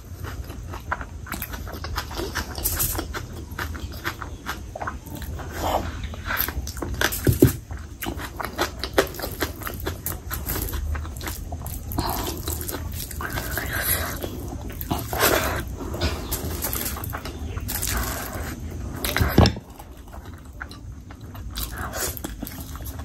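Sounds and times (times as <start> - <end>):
wet chewing and lip smacking: 0.0 - 23.0.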